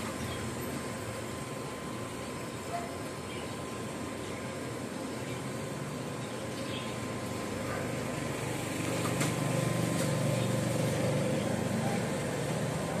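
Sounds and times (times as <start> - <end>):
mechanical hum with rushing: 0.0 - 13.0.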